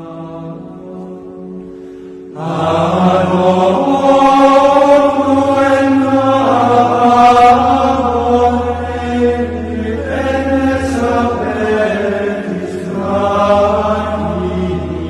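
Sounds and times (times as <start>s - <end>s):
low drone: 0.0s - 15.0s
voices singing plainchant: 2.3s - 15.0s.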